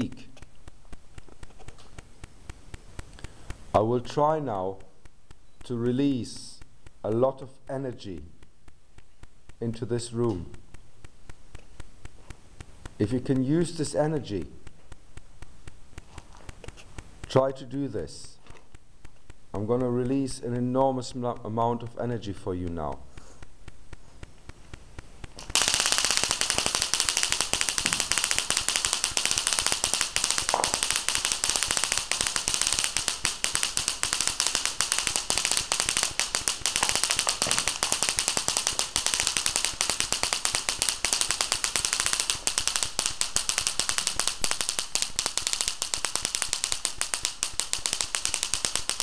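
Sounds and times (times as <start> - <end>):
electric spark crackling: 0.0 - 49.0.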